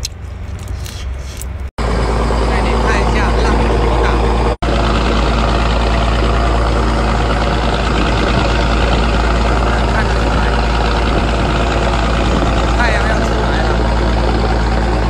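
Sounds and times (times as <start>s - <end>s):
boat engine droning: 1.8s - 15.0s
water rushing along hull: 1.8s - 15.0s.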